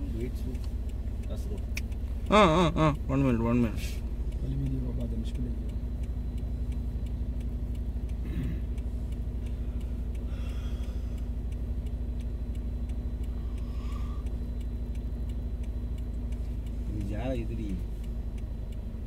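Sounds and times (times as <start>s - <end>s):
faint regular ticking: 0.0s - 19.0s
vehicle engine drone: 0.0s - 19.0s.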